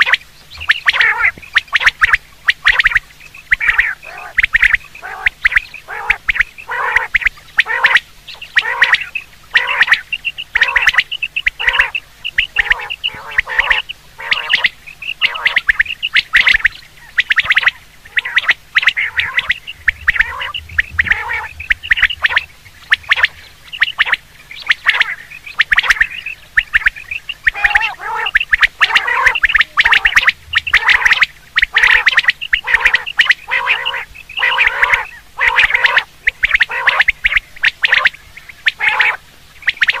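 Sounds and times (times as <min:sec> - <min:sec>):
quail calling: 0:00.0 - 0:40.0.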